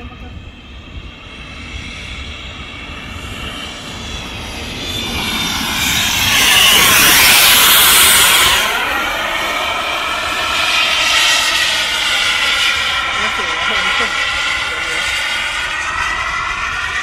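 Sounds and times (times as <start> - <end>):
model jet engine passing overhead: 0.0 - 17.0.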